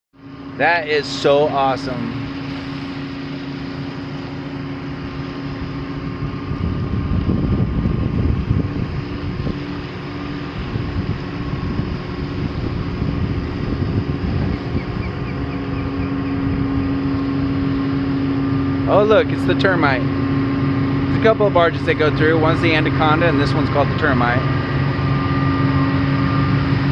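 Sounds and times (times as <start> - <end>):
boat diesel engines droning: 0.2 - 26.9
low engine rumble: 0.2 - 26.9.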